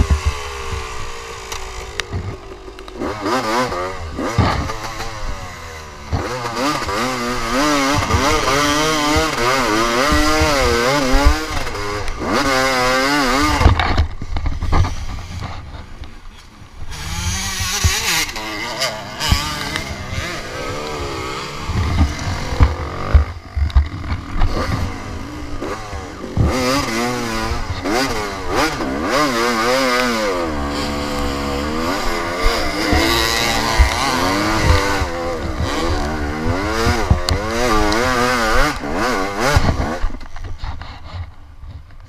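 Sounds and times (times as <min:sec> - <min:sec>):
dirt bike engine revving: 0:00.0 - 0:41.2.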